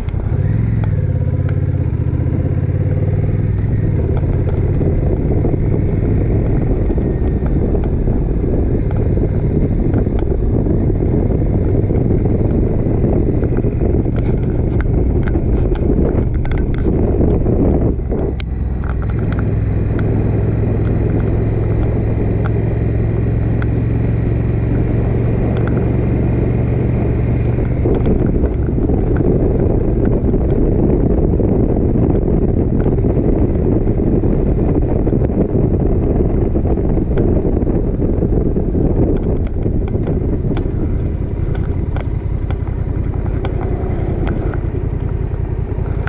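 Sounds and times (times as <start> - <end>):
motorcycle engine cruising: 0.0 - 46.0
wind rushing on microphone: 0.0 - 46.0.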